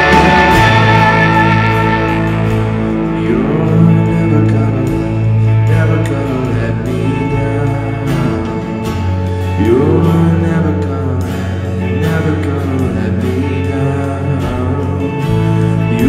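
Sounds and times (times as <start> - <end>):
acoustic guitar: 0.0 - 16.0
drums: 0.0 - 16.0
electric bass: 0.0 - 16.0
person singing: 0.0 - 16.0
piano: 0.0 - 16.0.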